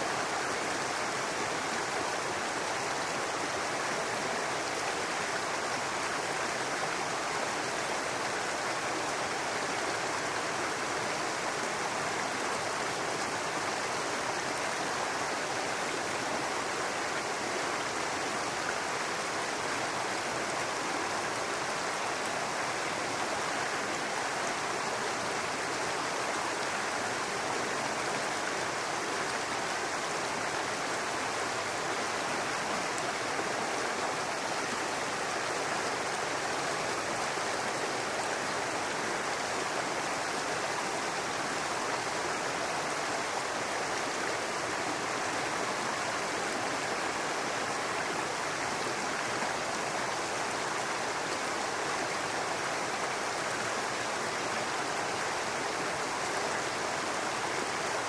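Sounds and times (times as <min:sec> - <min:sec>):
brook water running over stones: 0:00.0 - 0:58.0.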